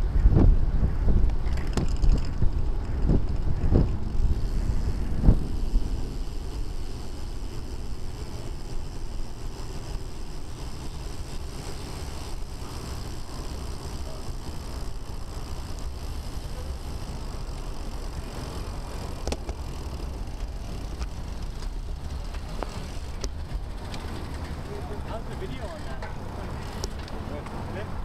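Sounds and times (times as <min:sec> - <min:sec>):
bike tyre noise: 0:00.0 - 0:28.0
wind rumble: 0:00.0 - 0:28.0.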